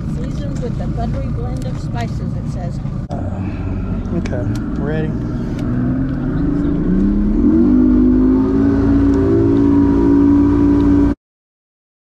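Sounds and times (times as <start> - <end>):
outboard motor running: 0.0 - 11.2.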